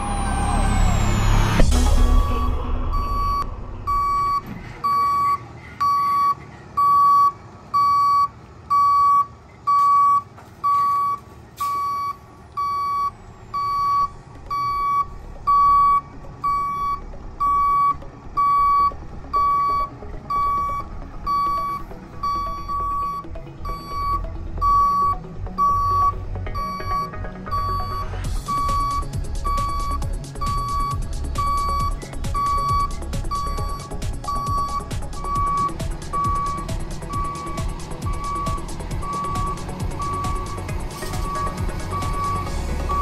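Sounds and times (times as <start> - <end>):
truck engine running: 0.0 - 43.0
truck reversing alarm beeping: 0.0 - 43.0.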